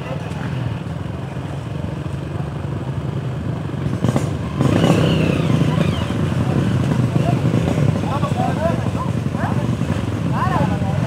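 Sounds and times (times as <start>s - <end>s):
motorcycle engines at low speed: 0.0s - 11.0s.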